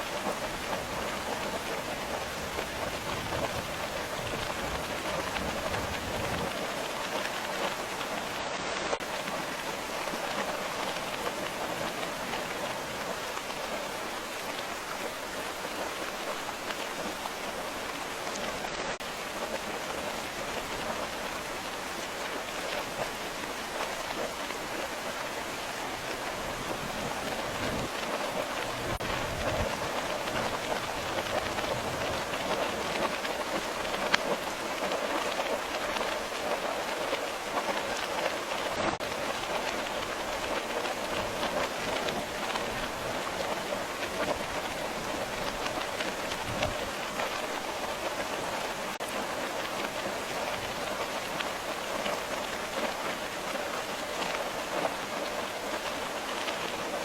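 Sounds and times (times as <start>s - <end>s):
rain drops pattering on a surface: 0.0s - 57.0s.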